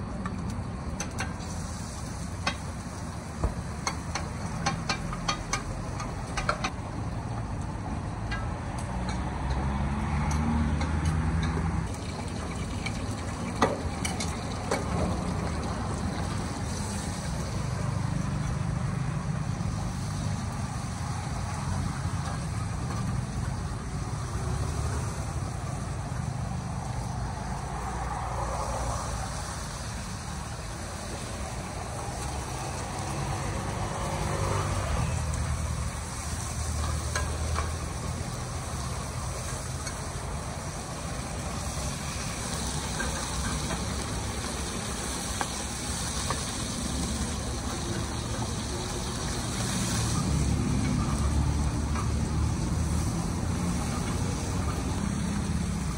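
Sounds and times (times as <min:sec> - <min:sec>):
eggs sizzling in oil: 0:00.4 - 0:55.9.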